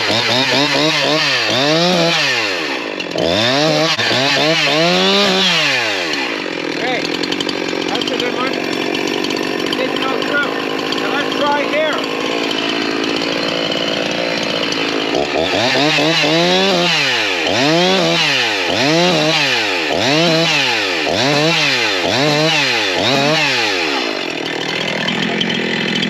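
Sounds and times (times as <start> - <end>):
chainsaw engine bogging: 0.0 - 26.0.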